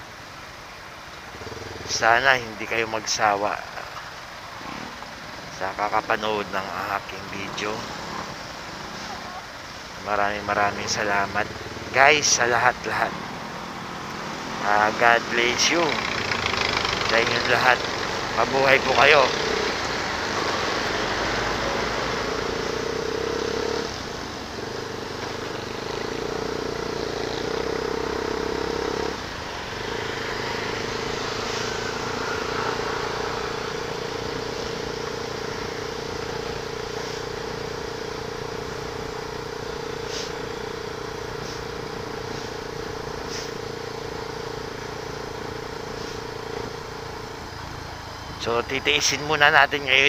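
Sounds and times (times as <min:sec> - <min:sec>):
motorcycle engine cruising: 0:00.0 - 0:50.0
wind and road noise: 0:00.0 - 0:50.0.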